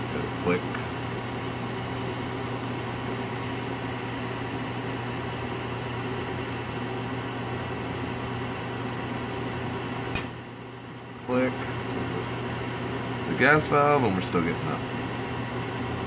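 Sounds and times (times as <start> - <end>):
furnace fan motor humming: 0.0 - 16.0.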